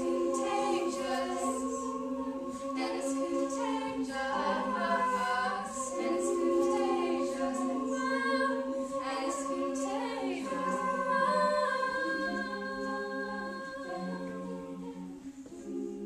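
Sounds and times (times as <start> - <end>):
a cappella group singing in harmony: 0.0 - 16.0.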